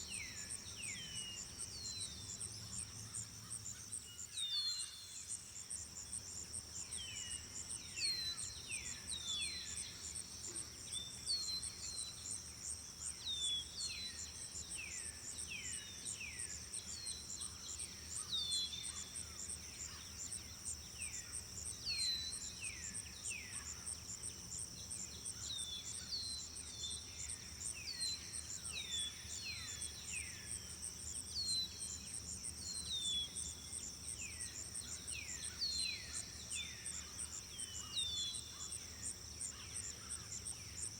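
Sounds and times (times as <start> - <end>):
high insect chorus: 0.0 - 40.9.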